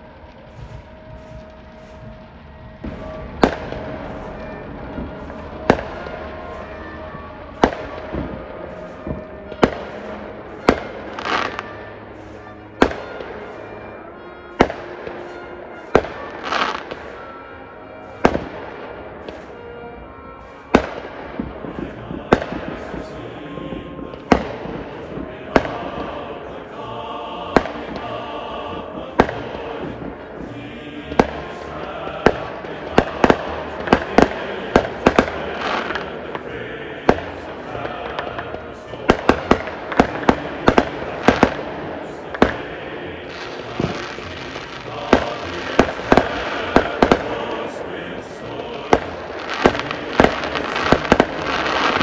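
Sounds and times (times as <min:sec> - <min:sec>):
fireworks booming: 0:00.0 - 0:26.7, 0:27.5 - 0:52.0
live band music: 0:00.0 - 0:52.0.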